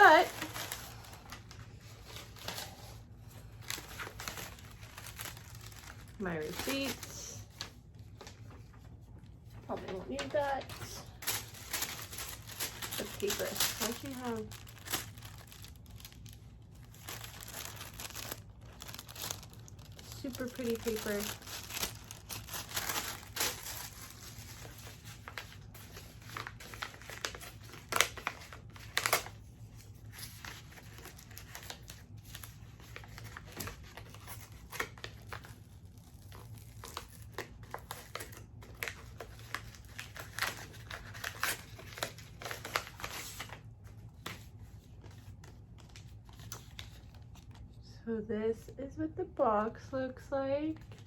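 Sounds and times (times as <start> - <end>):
wrapping paper rustling: 0.0 - 47.8, 50.7 - 51.0.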